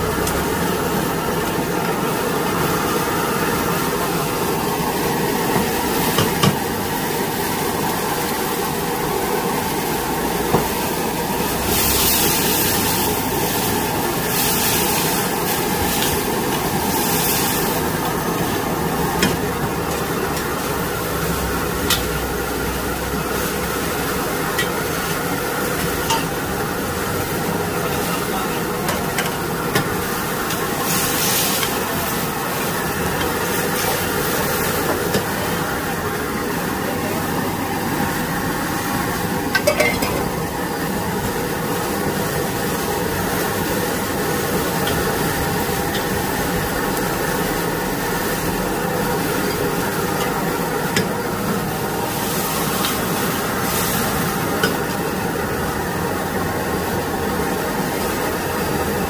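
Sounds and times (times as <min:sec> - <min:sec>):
food sizzling in a wok: 0:00.0 - 0:59.0.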